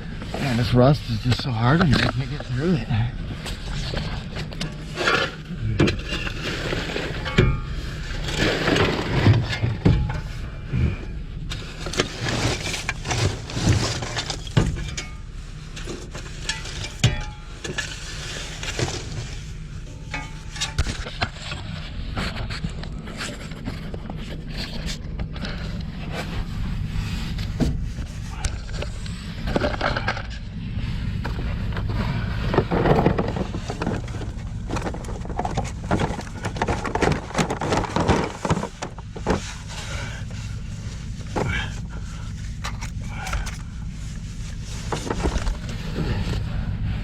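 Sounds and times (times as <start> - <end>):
cable scraping and rattling in pipe: 0.0 - 47.0.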